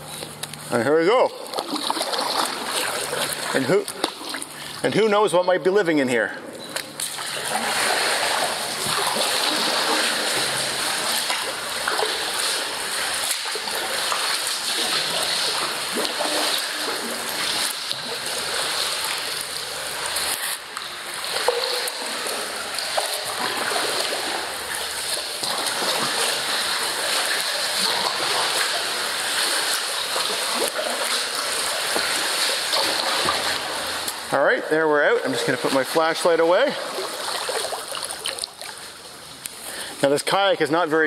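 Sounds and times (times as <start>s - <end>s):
kayak paddle splashing: 1.4s - 4.9s, 7.0s - 34.3s, 35.3s - 39.9s.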